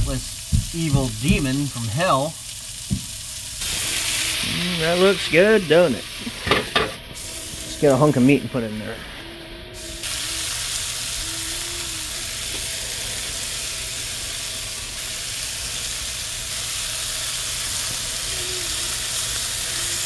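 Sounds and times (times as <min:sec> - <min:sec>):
meat sizzling in a frying pan: 0:00.0 - 0:08.2, 0:09.8 - 0:20.0.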